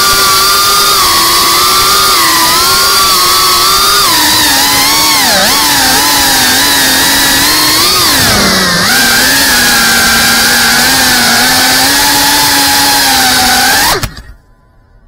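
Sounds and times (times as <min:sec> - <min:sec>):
drone motors whining: 0:00.0 - 0:14.8.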